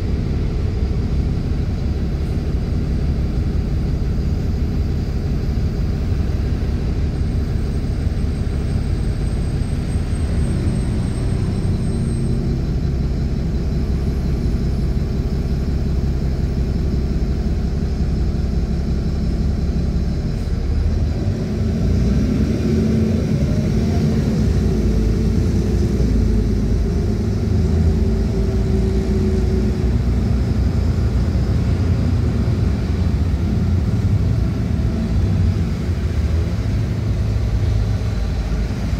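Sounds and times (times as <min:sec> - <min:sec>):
bus engine rumble: 0:00.0 - 0:38.9
road noise: 0:00.0 - 0:38.9.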